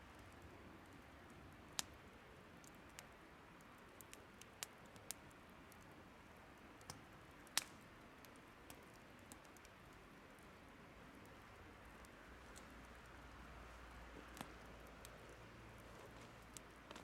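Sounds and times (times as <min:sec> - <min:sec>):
soft steady hiss: 0:00.0 - 0:17.0
wood fire crackling: 0:00.0 - 0:17.0
fire popping: 0:00.1 - 0:17.0.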